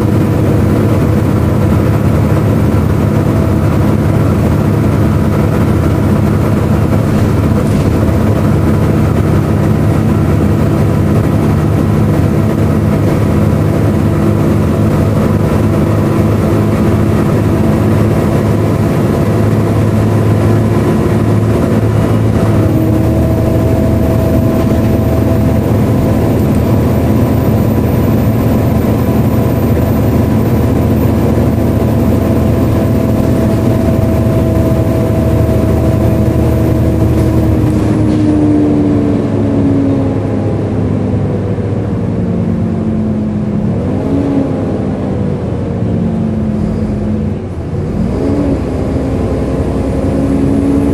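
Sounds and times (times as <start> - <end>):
diesel bus engine running: 0.0 - 50.9
engine cooling fan whining: 0.0 - 50.9
high whining tone: 0.0 - 50.9.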